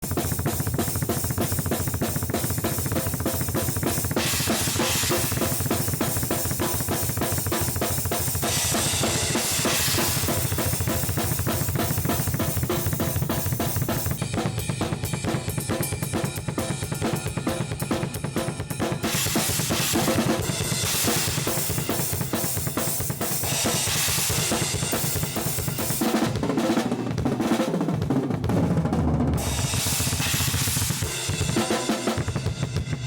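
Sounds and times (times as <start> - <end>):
drum kit fast steady beat: 0.0 - 33.0.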